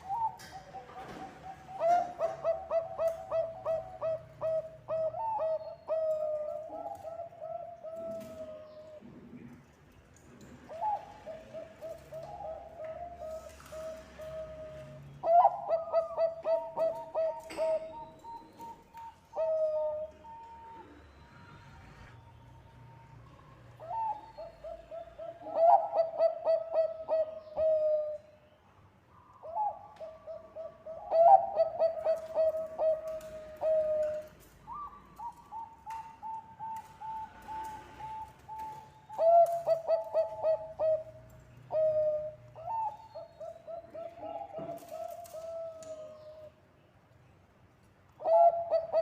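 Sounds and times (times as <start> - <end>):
dove cooing: 0.0 - 9.5, 10.7 - 22.2, 23.7 - 28.3, 29.4 - 46.5, 48.2 - 49.0.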